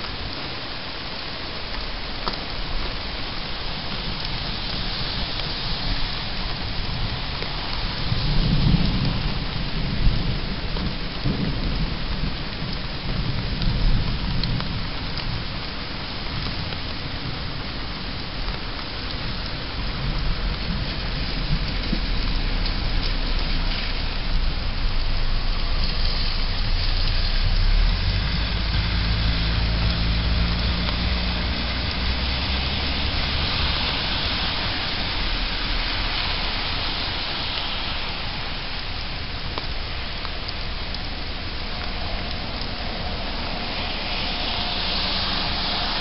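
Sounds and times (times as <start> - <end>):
rain hiss: 0.0 - 46.0
low thunder rumble: 2.0 - 46.0.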